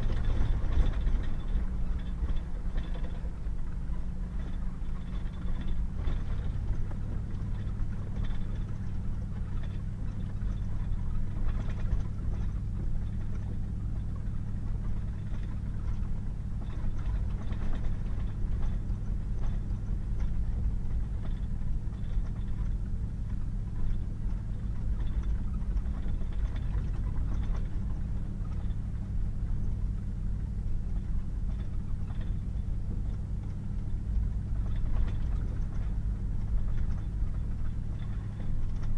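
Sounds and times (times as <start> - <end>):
truck engine drone: 0.0 - 38.9.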